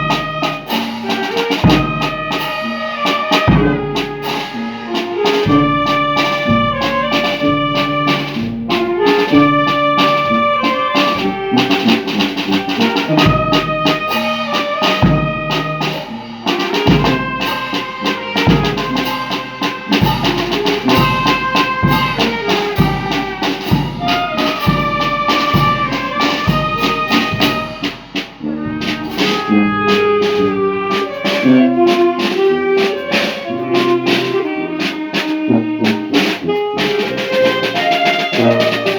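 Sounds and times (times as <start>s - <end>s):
brass band playing: 0.0s - 38.9s
steady drum beat: 0.0s - 38.9s.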